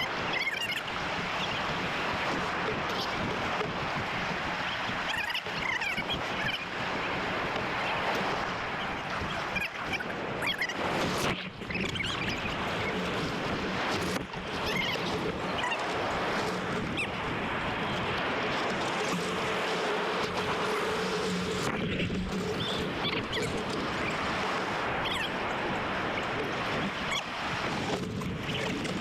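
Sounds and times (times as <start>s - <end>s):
ocean surf: 0.0s - 29.0s
wind on microphone: 0.0s - 29.0s.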